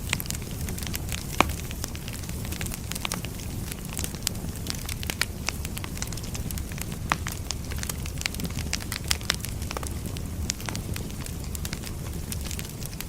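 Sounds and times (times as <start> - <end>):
firewood crackling and popping: 0.0 - 13.0
low rumble of fire: 0.0 - 13.0.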